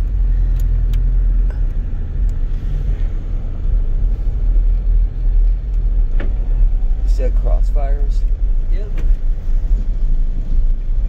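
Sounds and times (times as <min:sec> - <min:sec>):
deep bass from subwoofers: 0:00.0 - 0:11.0.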